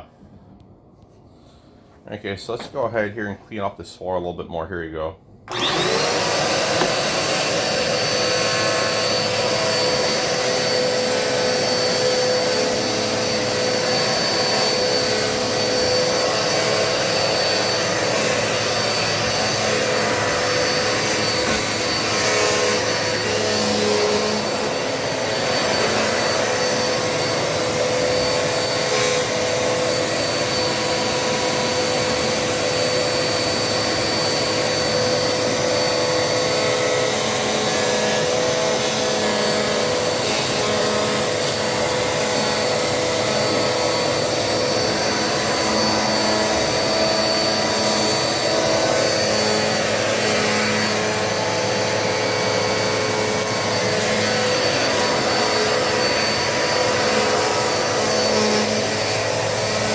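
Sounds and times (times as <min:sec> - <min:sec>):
vacuum cleaner running: 0:05.5 - 0:59.9.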